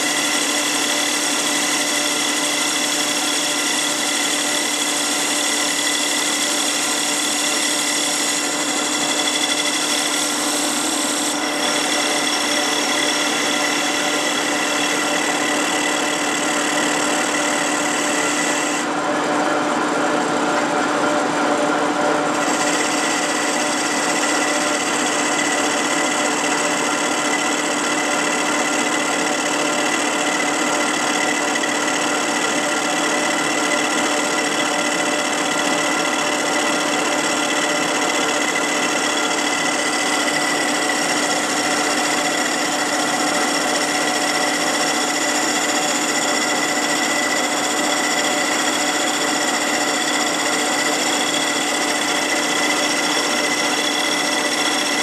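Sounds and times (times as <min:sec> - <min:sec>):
metal lathe whirring: 0:00.0 - 0:55.0.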